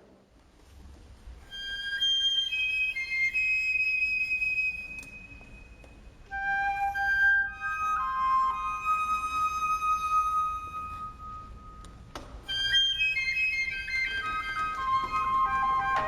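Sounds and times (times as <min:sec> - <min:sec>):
flute playing slow melody: 0:01.4 - 0:16.0.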